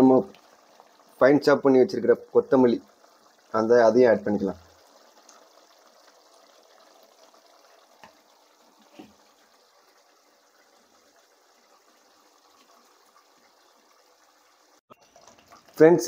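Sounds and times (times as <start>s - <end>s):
curry simmering in a pot: 0.0s - 16.0s.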